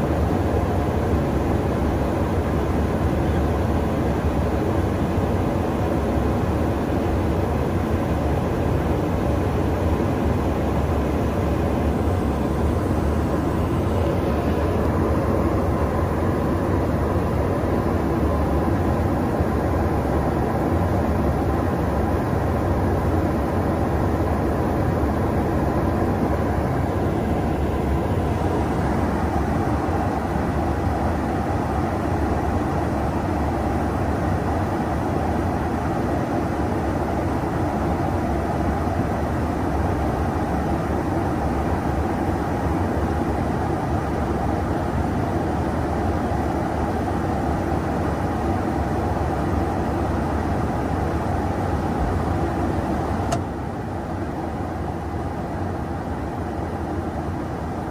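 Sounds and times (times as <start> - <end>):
aircraft cabin drone and air rush: 0.0 - 57.9.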